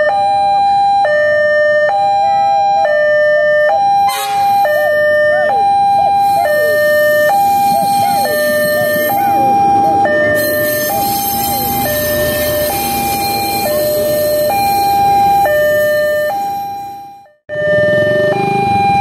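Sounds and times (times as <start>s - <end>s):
level crossing two-tone alarm: 0.0s - 19.0s
diesel locomotive rumbling: 2.2s - 19.0s.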